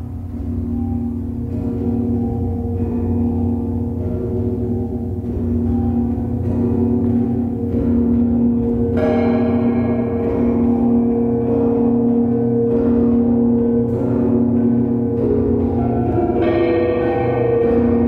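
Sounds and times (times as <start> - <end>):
metal sculptures struck with mallet: 0.0 - 18.0.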